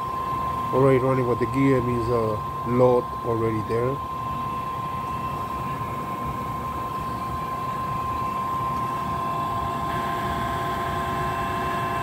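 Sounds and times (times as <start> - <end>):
electric motor hum with whine: 0.0 - 12.0.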